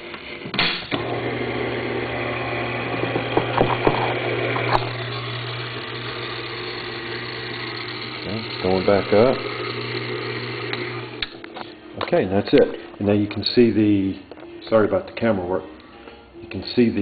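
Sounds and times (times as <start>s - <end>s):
actuator motor humming: 0.0s - 14.0s.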